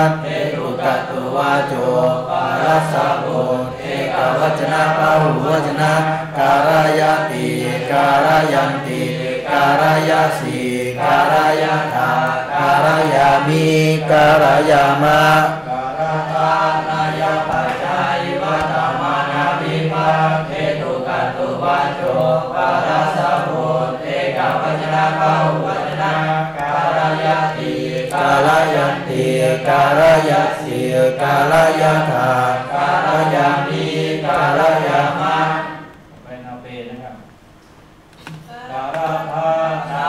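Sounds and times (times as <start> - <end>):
person chanting recitation: 0.0 - 37.2, 38.4 - 40.0.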